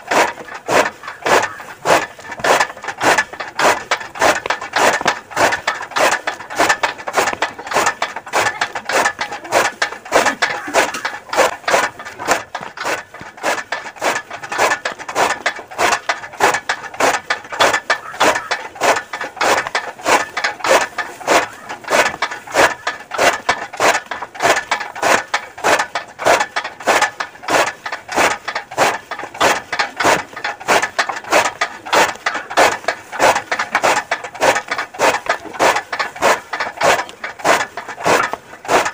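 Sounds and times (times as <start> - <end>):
chaff cutter blades chopping grass: 0.0 - 38.9
feed gears clicking: 0.0 - 38.9.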